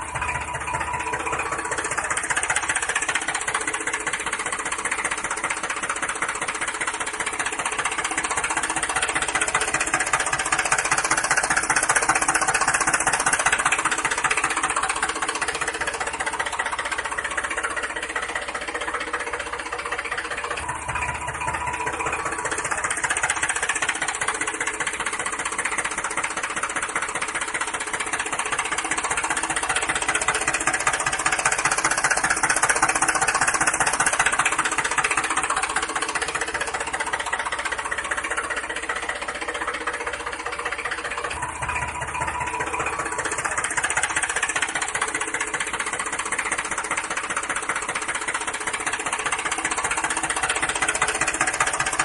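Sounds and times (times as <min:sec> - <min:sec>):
engine idling with knocking: 0:00.0 - 0:52.0.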